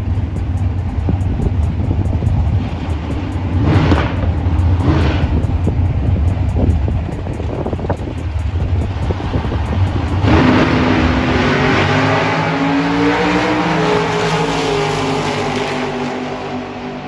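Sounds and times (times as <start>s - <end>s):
drag racing cars accelerating: 0.0s - 17.0s.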